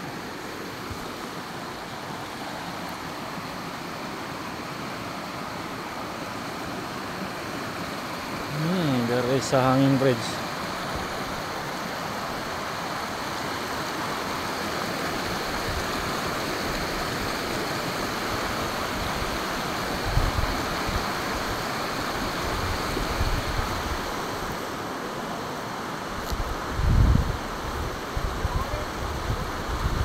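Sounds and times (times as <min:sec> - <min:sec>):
creek rushing over rocks: 0:00.0 - 0:30.0.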